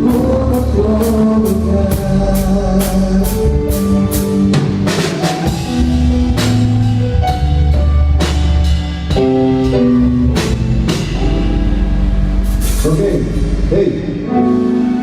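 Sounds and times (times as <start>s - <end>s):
bass line: 0.0s - 15.0s
held keyboard chords: 0.0s - 15.0s
live band playing: 0.0s - 15.0s.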